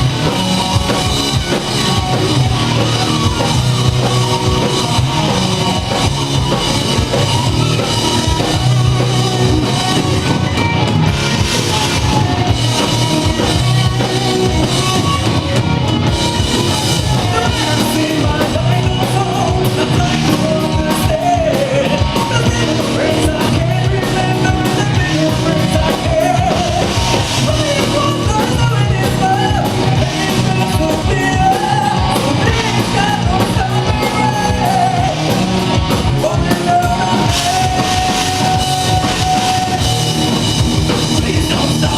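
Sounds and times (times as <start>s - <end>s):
person singing: 0.0s - 41.9s
rock music with drums and guitar: 0.0s - 41.9s.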